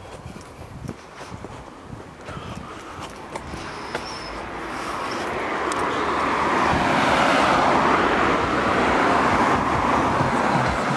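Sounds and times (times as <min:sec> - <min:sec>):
road vehicle approaching: 0:00.0 - 0:10.9.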